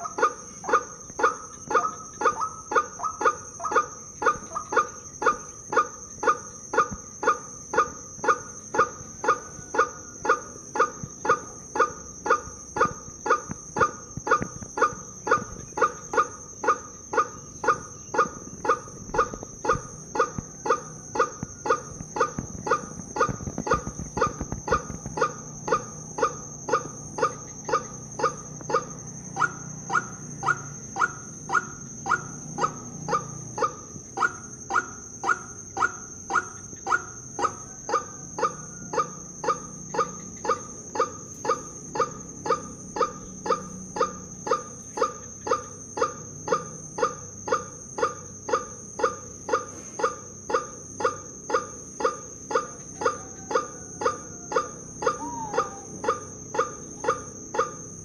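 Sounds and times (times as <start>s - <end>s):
nasal honking bird lure calls: 0.0s - 57.8s.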